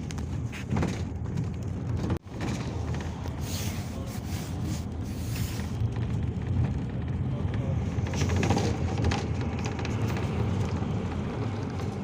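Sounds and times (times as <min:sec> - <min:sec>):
engine and road rumble in cabin: 0:00.0 - 0:12.0.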